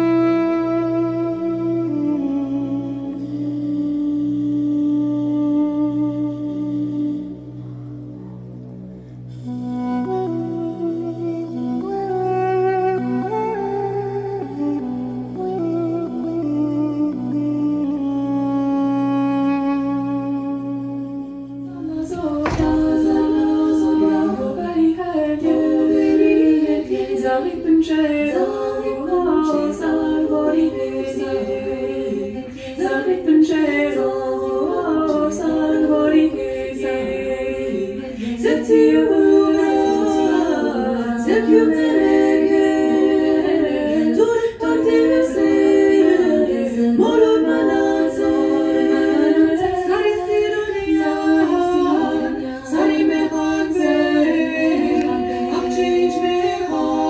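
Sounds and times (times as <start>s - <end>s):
voices singing unaccompanied: 0.0s - 7.6s, 9.4s - 57.0s.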